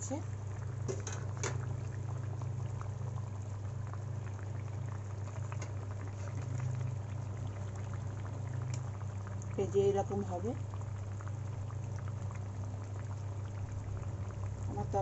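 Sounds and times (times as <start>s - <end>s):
curry bubbling in a pan: 0.0s - 15.0s
steady low hum: 0.0s - 15.0s.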